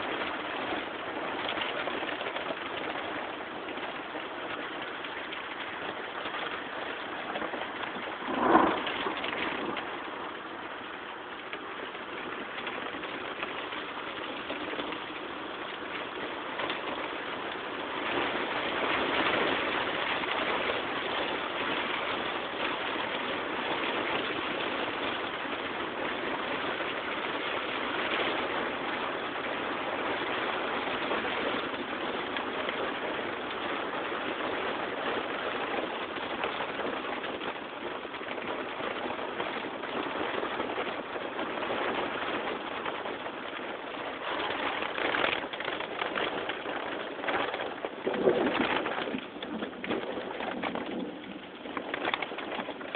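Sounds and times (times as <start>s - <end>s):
rain hitting a car: 0.0s - 52.9s.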